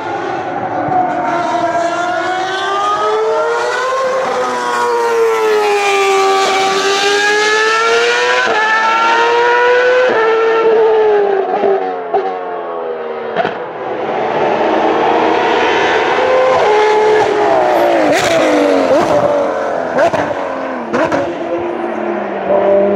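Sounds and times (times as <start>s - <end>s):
racing engine revving hard: 1.2s - 11.0s, 13.8s - 22.9s.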